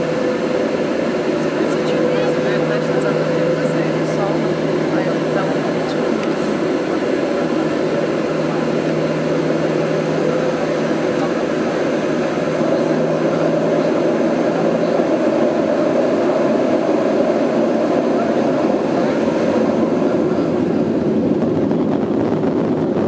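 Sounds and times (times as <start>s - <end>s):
jet engine cabin noise: 0.0s - 23.0s
low hum: 0.0s - 23.0s.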